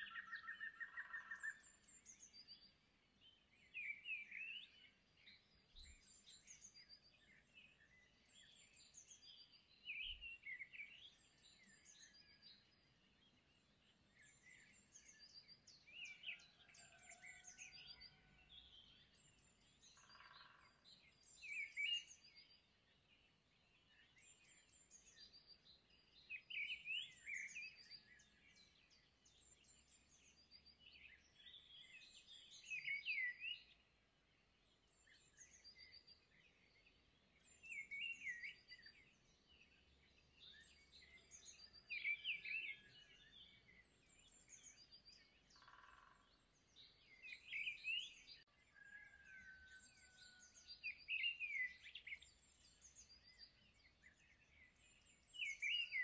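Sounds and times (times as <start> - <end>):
birds chirping and twittering: 0.0 - 56.0.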